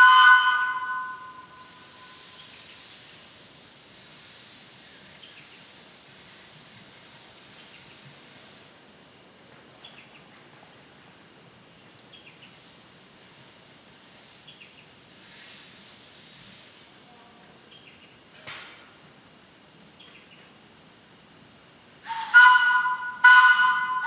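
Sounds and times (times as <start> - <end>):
steady high hiss: 0.0 - 24.0.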